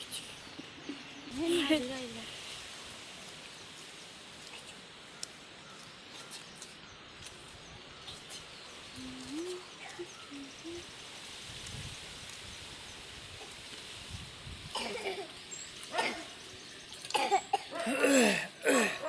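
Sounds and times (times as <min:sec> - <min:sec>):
faint outdoor background noise: 0:00.0 - 0:19.0.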